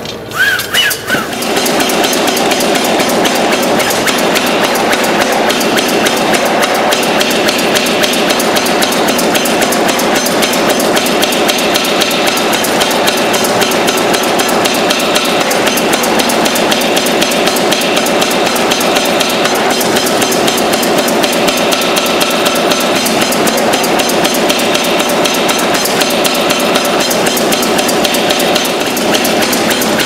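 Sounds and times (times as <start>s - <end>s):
power hammer striking hot steel: 1.1s - 30.0s.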